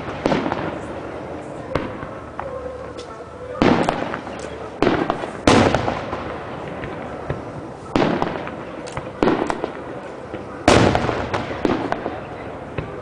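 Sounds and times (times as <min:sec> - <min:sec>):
firework shells booming: 0:00.0 - 0:02.5, 0:03.6 - 0:13.0
firework pops: 0:01.8 - 0:13.0.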